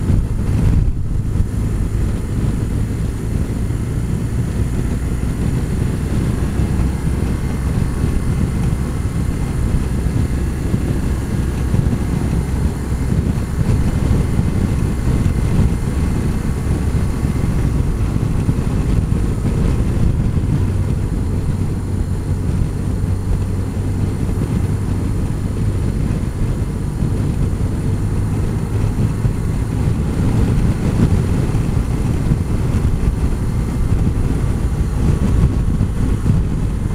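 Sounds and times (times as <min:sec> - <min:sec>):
motorcycle engine rumble: 0:00.0 - 0:36.9
road noise: 0:00.0 - 0:36.9
wind noise: 0:00.0 - 0:36.9.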